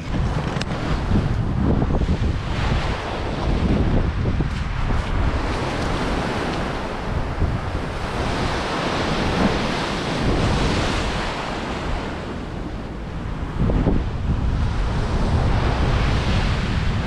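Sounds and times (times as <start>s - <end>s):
sea waves breaking on seawall: 0.0s - 17.0s
wind rumbling on microphone: 0.0s - 17.0s.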